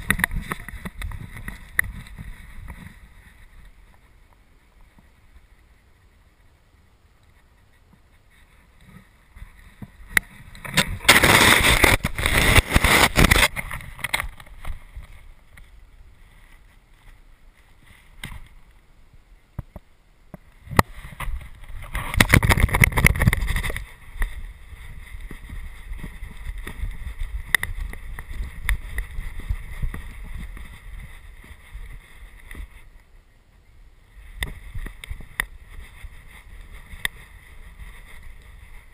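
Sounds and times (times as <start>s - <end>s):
snow scraping against camera: 0.0s - 6.1s, 7.4s - 18.6s, 20.6s - 33.0s, 34.1s - 38.9s.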